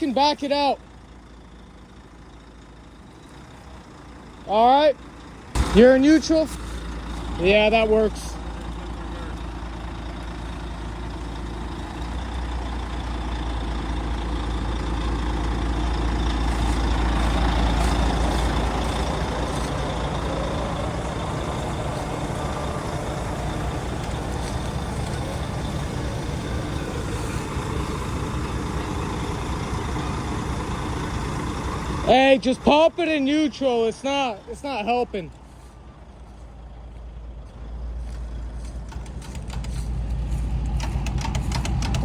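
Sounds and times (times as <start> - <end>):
truck engine working under load: 0.0 - 42.0.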